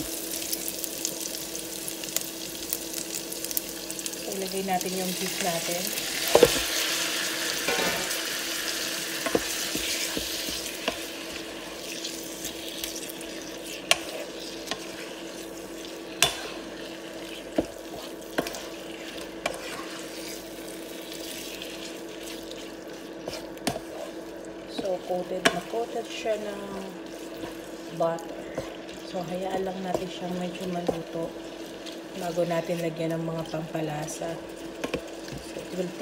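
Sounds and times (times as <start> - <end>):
meat sizzling in a frying pan: 0.0 - 36.0
steady hum: 0.0 - 36.0.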